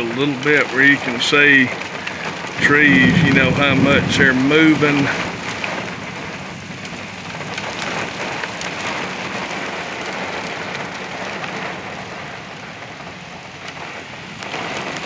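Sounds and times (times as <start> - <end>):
heavy rain hissing: 0.0 - 15.0
sharp raindrop taps: 0.0 - 15.0.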